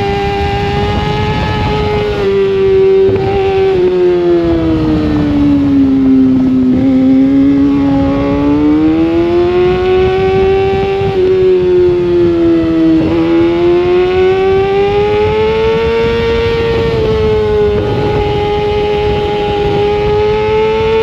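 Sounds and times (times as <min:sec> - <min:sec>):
motorcycle engine at high revs: 0:00.0 - 0:21.0
wind rush: 0:00.0 - 0:21.0.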